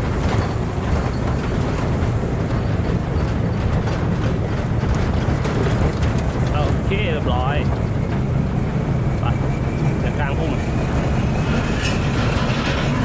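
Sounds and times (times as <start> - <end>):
farm machine engine rumbling: 0.0 - 13.0
rattling noise: 0.0 - 13.0.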